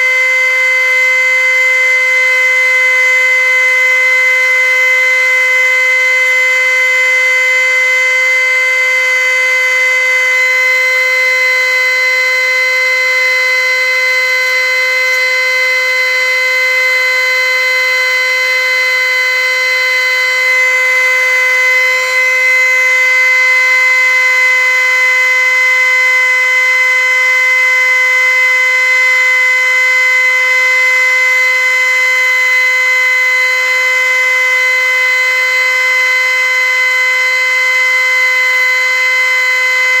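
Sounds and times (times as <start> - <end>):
loud buzzing tone: 0.0 - 40.0.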